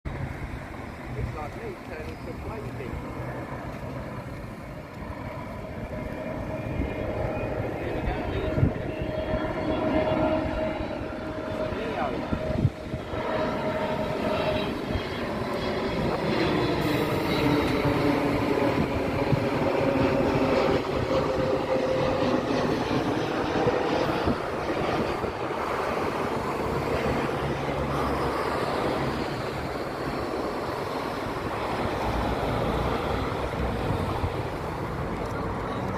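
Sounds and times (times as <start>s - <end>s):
jet engine roar: 0.1s - 35.9s
jet engine whine falling in pitch: 0.1s - 35.9s.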